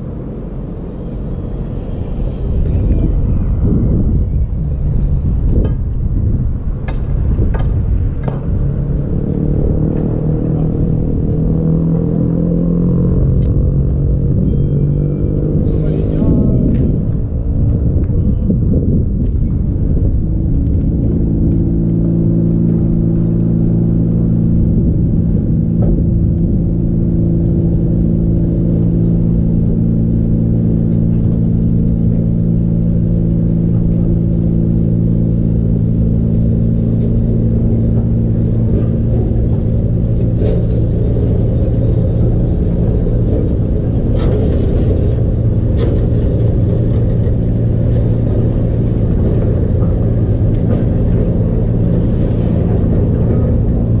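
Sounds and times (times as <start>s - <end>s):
loud steady mechanical hum: 0.0s - 54.0s.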